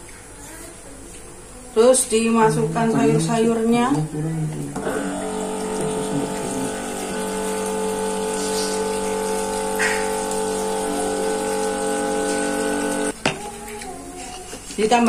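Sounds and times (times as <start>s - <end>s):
electric water pump humming: 1.1s - 15.0s
flowing water: 2.1s - 15.0s.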